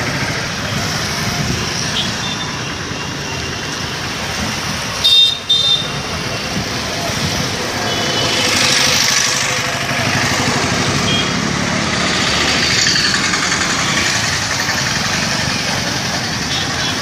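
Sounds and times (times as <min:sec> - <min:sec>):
motorcycles passing: 0:00.0 - 0:17.0
road noise: 0:00.0 - 0:17.0.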